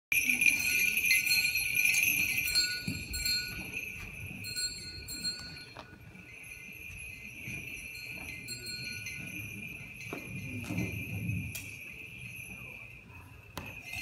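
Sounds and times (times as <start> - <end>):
censer bells jingling: 0.1 - 14.0.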